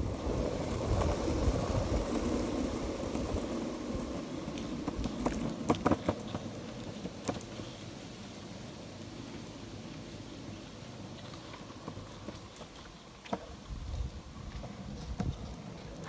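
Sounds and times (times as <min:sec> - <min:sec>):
longboard wheels rolling on asphalt: 0:00.0 - 0:16.0.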